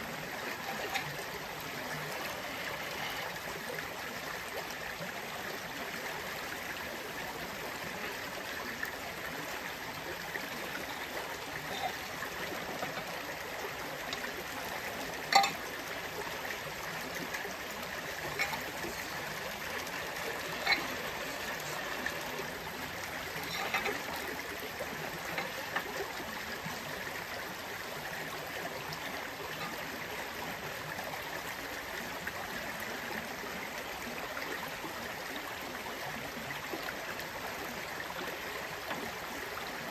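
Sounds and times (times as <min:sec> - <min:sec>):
creek water running: 0:00.0 - 0:39.9.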